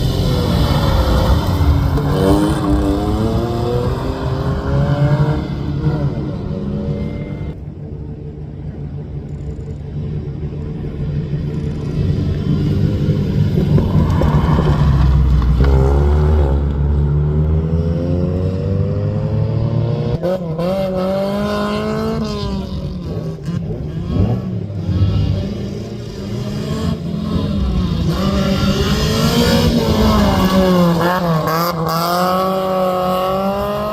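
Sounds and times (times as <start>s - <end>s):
rally car engine accelerating: 0.0s - 7.6s, 11.8s - 33.9s.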